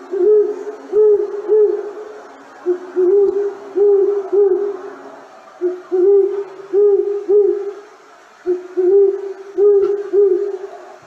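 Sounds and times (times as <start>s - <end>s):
owl hooting: 0.0s - 4.9s, 5.6s - 11.0s.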